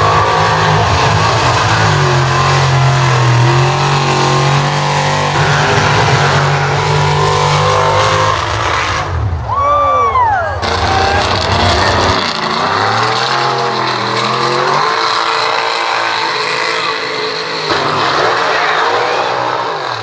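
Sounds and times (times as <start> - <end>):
truck engine revving: 0.0 - 9.5, 10.6 - 20.0.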